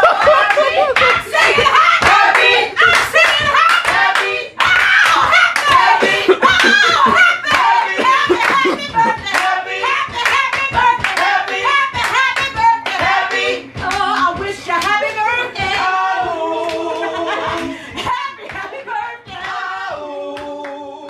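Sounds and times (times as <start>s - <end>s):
hands clapping along: 0.0s - 20.9s
voices singing: 0.0s - 21.0s.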